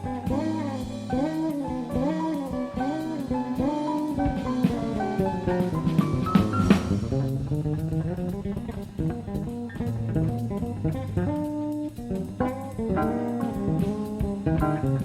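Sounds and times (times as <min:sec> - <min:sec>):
jazz fusion band playing: 0:00.0 - 0:15.0.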